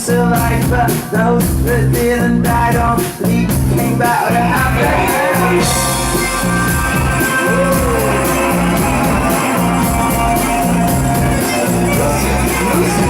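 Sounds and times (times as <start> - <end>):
rock band playing live: 0.0 - 13.0
repeating bass line: 0.1 - 13.0.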